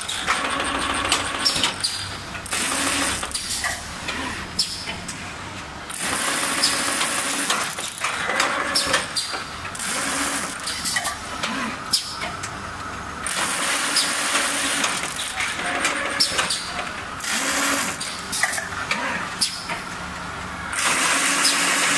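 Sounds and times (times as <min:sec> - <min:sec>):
machine rattling and hissing: 0:00.0 - 0:12.5, 0:13.2 - 0:21.9.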